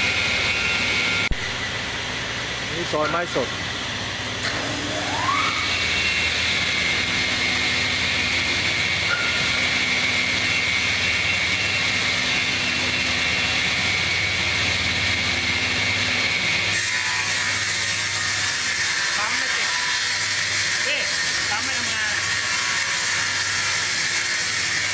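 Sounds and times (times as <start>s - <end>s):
rip saw whining: 4.4s - 24.9s.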